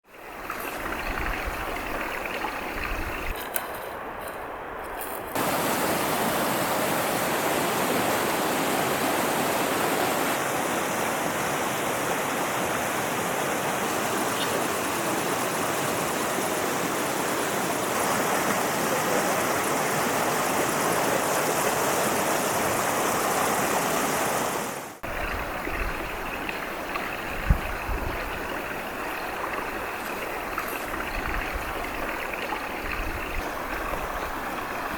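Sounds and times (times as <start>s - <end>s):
river rushing over rocks: 5.4s - 34.9s.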